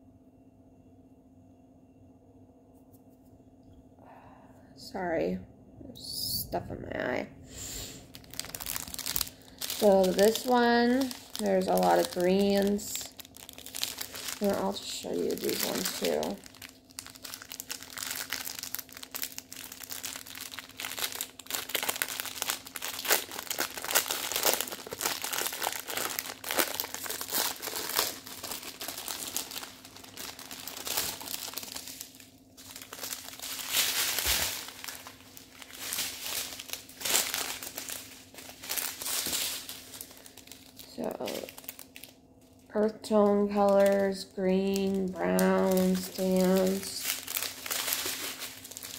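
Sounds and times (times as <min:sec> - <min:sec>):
faint steady hum: 0:00.0 - 0:48.9
plastic packaging crinkling: 0:07.6 - 0:48.9.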